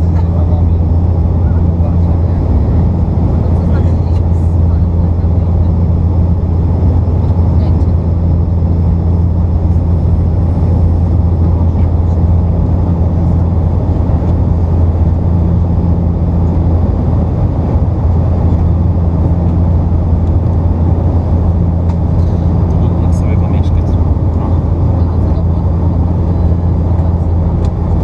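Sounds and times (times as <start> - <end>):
turboprop engine drone: 0.0 - 28.0.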